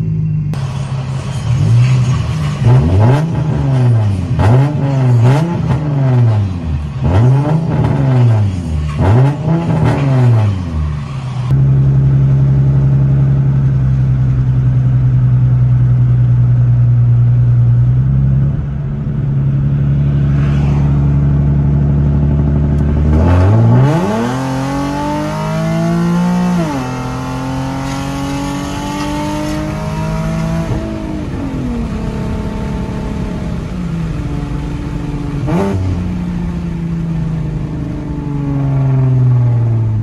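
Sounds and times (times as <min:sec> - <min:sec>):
car engine revving while driving: 0:01.6 - 0:13.6, 0:14.2 - 0:40.0.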